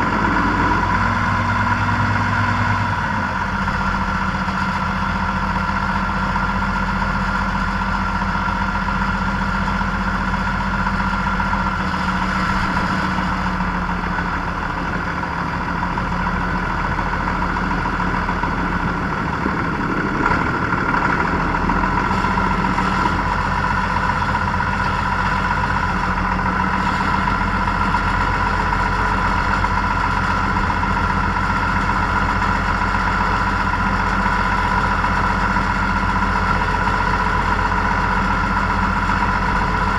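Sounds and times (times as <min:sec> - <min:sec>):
steady whine: 0:00.0 - 0:39.9
tractor engine droning: 0:00.0 - 0:39.9.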